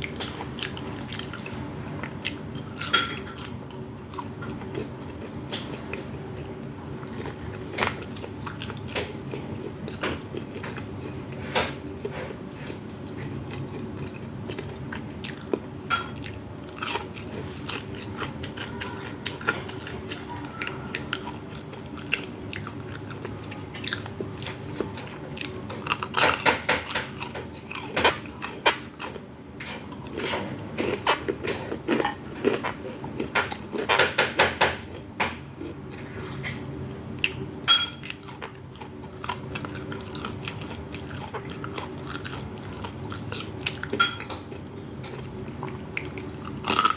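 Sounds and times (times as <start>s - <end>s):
person chewing crunchy food: 0.0s - 36.5s, 37.1s - 46.9s
faint steady hum: 0.0s - 46.9s.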